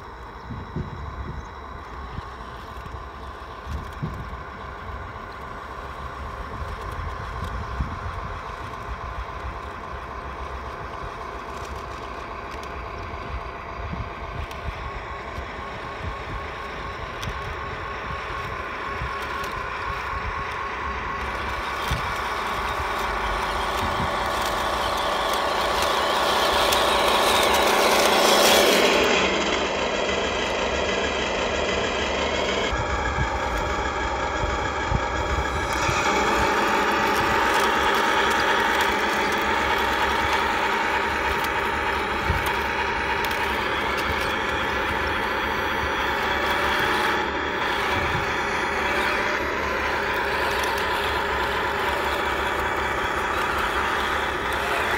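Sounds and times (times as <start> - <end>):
toy tank engine running: 0.0 - 54.9.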